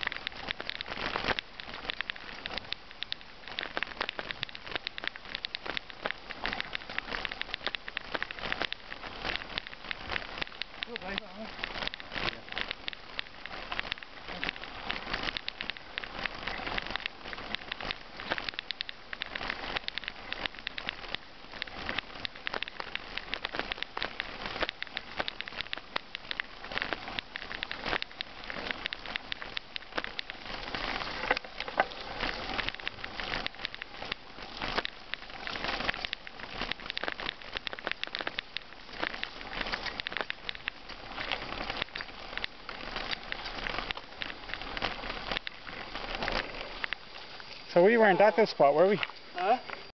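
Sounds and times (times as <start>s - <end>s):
bicycle tyres crunching on gravel: 0.0s - 49.9s.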